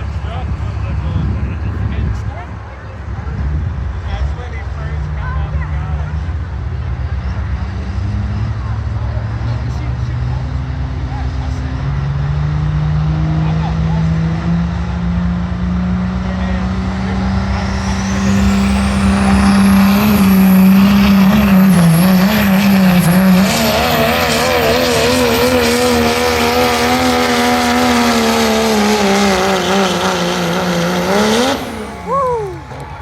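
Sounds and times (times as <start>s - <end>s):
diesel engine at full throttle: 0.0s - 33.0s
high engine whine: 0.0s - 33.0s.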